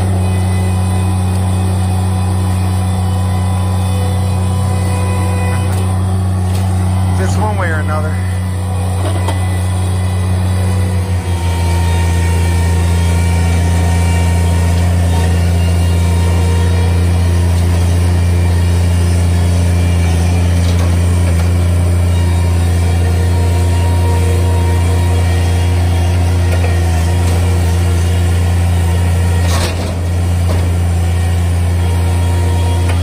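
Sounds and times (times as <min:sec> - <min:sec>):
diesel engine running at high revs: 0:00.0 - 0:33.0.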